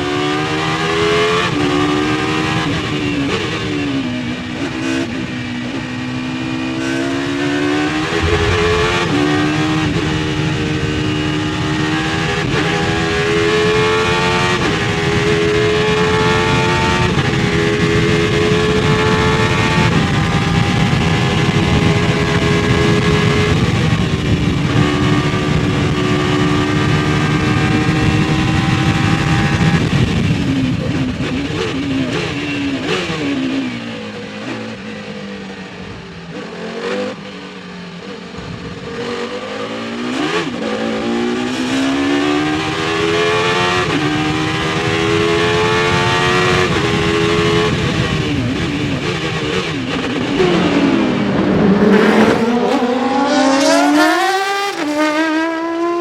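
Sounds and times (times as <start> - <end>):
racing car engine accelerating: 0.0 - 30.8, 38.4 - 56.0.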